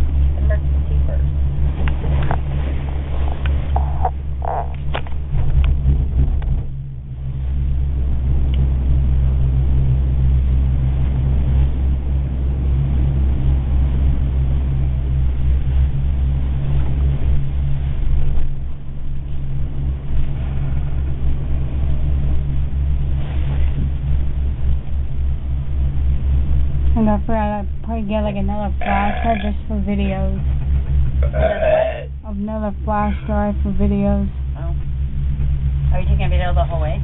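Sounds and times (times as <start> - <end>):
gondola cabin rumble and hum: 0.0 - 37.0.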